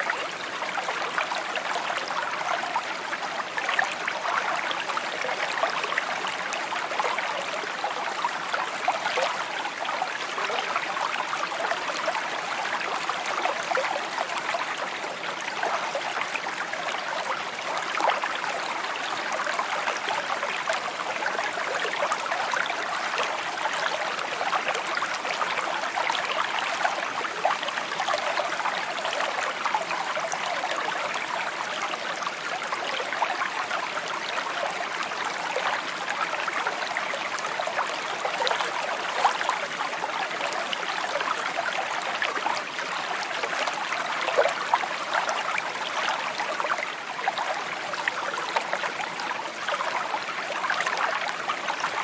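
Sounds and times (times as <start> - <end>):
stream babbling over stones: 0.0 - 52.0.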